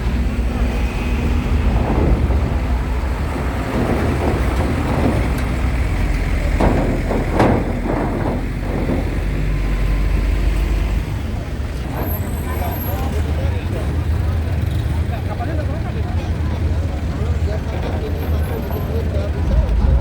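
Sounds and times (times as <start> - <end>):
heavy truck engines rumbling: 0.0 - 20.0.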